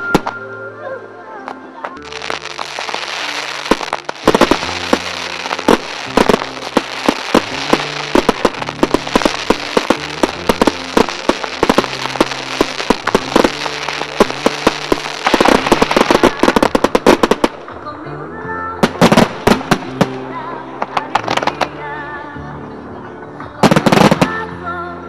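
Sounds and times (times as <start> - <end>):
fireworks bursting and crackling: 0.0 - 0.4, 1.9 - 17.9, 18.8 - 22.0, 23.6 - 24.5.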